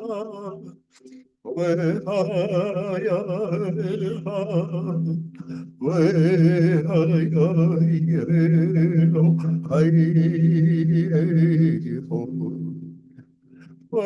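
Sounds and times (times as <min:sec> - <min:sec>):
person chanting ornamented melody: 0:00.0 - 0:13.1.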